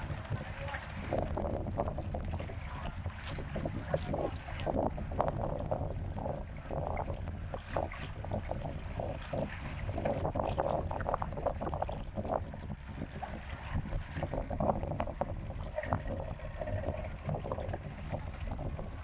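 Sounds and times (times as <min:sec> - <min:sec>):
small waves lapping: 0:00.0 - 0:19.0
wind rumble on microphone: 0:00.0 - 0:19.0.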